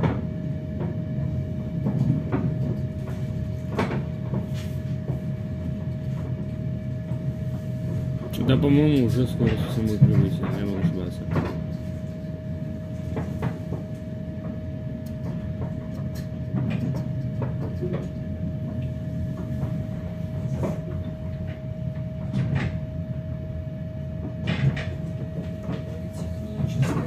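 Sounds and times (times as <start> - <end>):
constant whine: 0.0 - 27.0
train low rumble: 0.0 - 27.0.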